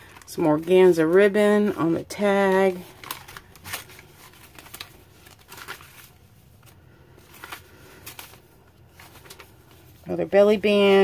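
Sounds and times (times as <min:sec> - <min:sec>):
faint paper crinkles: 0:00.0 - 0:11.0
paper pages rustling: 0:00.0 - 0:11.0.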